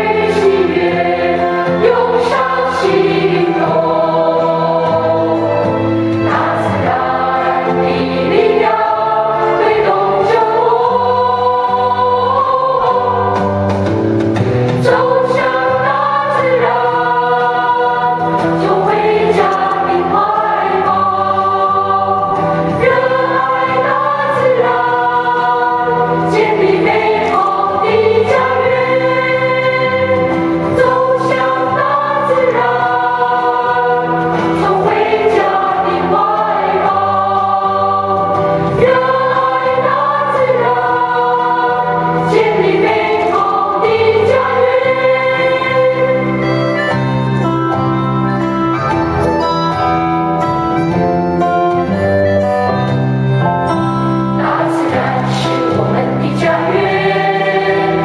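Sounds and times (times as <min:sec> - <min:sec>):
song with voices singing: 0:00.0 - 0:58.0.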